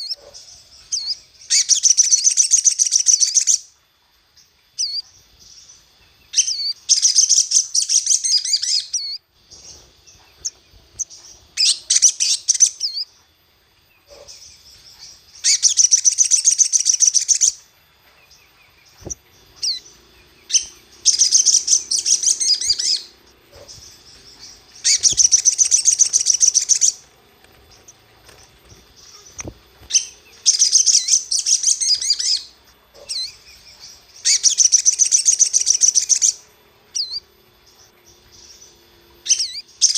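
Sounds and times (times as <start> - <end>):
bird twittering: 0.0 - 3.8, 4.4 - 39.9.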